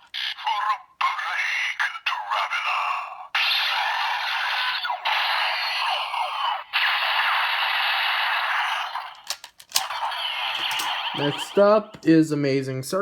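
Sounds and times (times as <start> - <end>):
toy electronic sound effect: 0.0 - 12.0.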